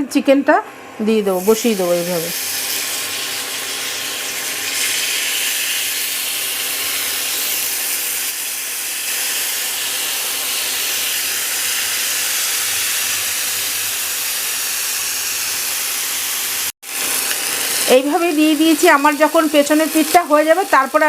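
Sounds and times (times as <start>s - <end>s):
chicken sizzling on grill pan: 1.4s - 21.0s.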